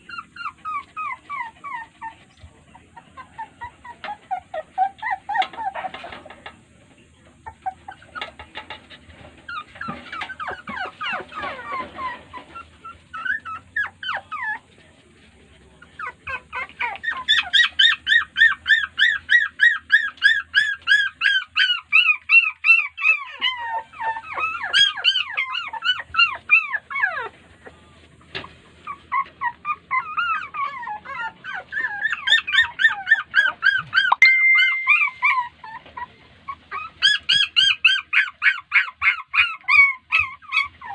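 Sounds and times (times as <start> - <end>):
puppies whining yelps: 0.0 - 6.3, 9.2 - 14.7, 15.9 - 27.4, 28.4 - 40.9.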